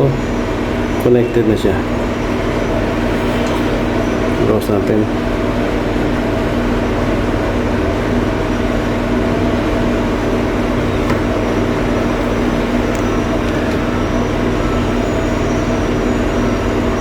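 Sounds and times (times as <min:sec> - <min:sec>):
mechanical hum with held tones: 0:00.0 - 0:17.0.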